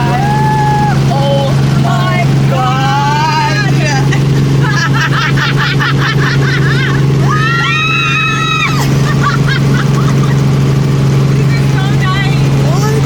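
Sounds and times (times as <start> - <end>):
helicopter drone from cabin: 0.0 - 13.0.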